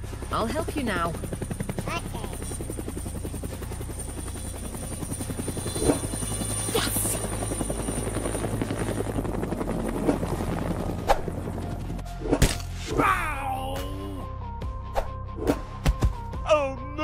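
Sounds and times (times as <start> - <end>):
cartoon helicopter rotor chopping: 0.0 - 14.2.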